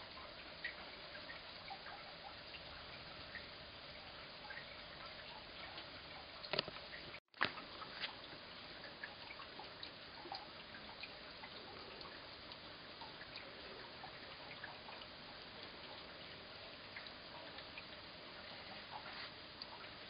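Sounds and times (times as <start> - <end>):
rain and wet snow falling: 0.0 - 20.0.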